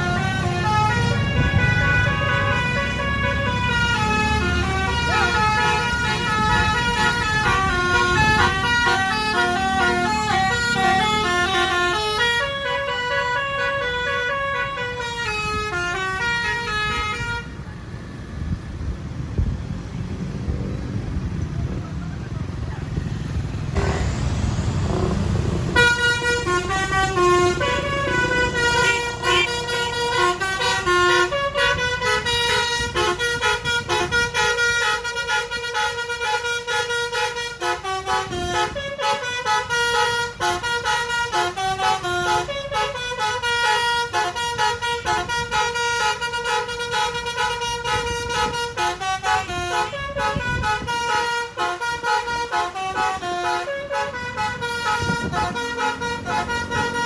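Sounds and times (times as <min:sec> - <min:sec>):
bus horn playing melody: 0:00.0 - 0:17.6, 0:23.5 - 0:57.0
engine and road rumble: 0:00.0 - 0:57.0.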